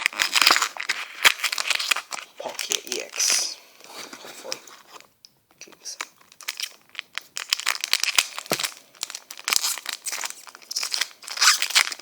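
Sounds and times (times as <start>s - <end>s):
foil wrapper crinkling and tearing: 0.0s - 5.1s, 5.8s - 12.0s.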